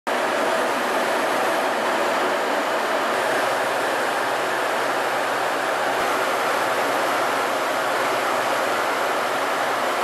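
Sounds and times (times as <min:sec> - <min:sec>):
aircraft jet engine roar: 0:00.1 - 0:10.0.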